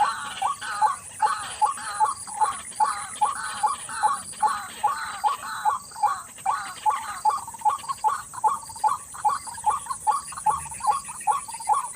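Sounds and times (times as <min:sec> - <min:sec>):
bird croaking call: 0:00.0 - 0:11.9.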